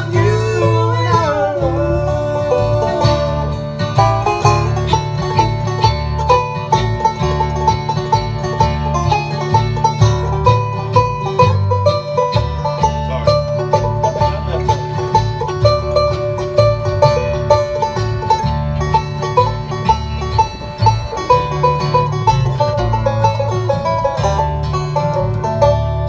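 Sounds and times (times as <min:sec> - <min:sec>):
banjo picking quick notes: 0:00.0 - 0:26.0
guitar: 0:00.0 - 0:26.0.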